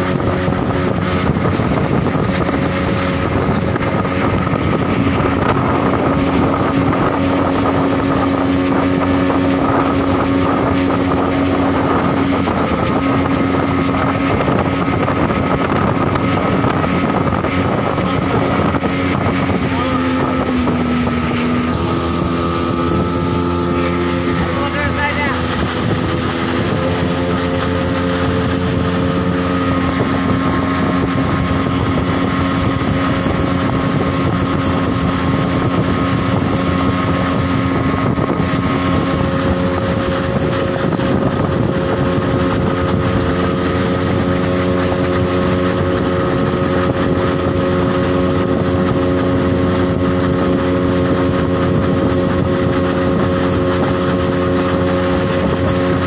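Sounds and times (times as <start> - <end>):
outboard motor droning: 0.0 - 56.0
wind: 0.0 - 56.0.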